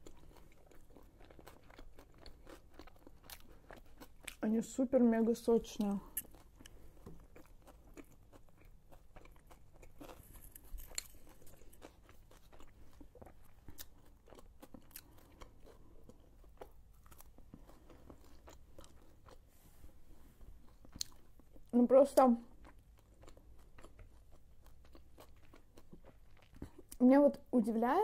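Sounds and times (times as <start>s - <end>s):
person chewing: 0.0s - 4.4s, 5.7s - 27.0s.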